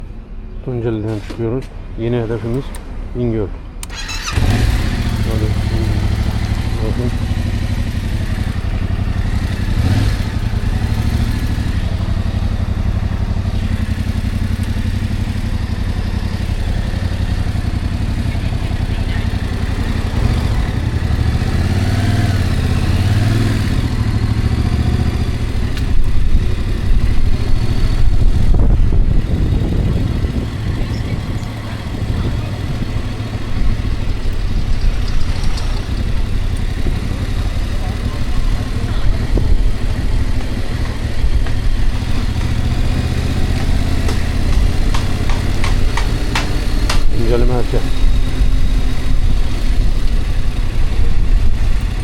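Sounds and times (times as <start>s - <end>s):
road noise: 0.0s - 52.0s
vehicle engine running: 3.6s - 52.0s.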